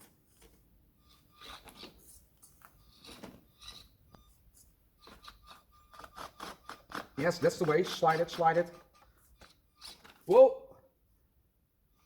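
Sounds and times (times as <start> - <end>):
toy crawler scraping and clicking: 0.0 - 10.3.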